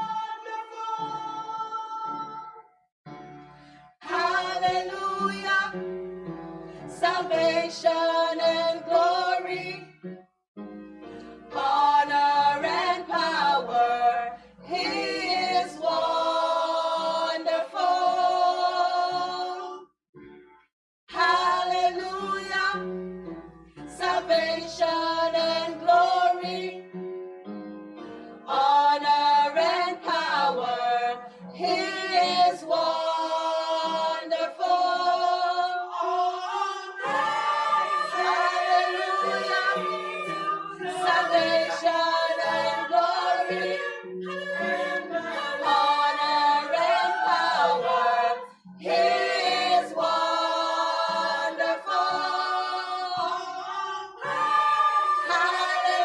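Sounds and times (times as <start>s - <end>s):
church choir singing in harmony: 0.0s - 2.6s, 3.8s - 10.0s, 11.3s - 19.9s, 21.1s - 27.1s, 28.1s - 56.0s.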